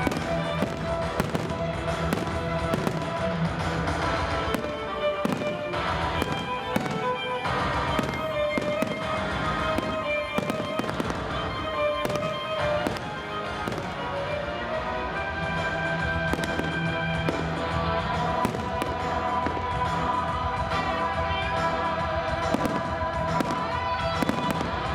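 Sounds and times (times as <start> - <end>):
fireworks bangs and crackles: 0.0 - 24.9
music playing: 0.0 - 24.9.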